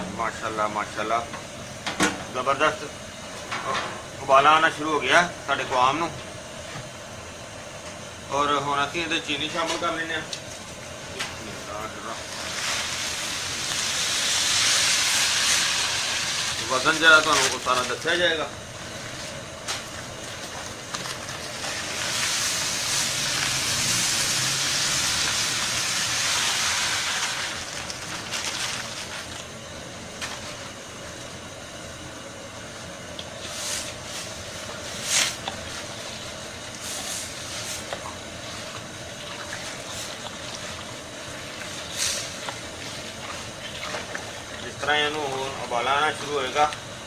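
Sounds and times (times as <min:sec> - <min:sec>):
liquid boiling hard in a pot: 0:00.0 - 0:47.0.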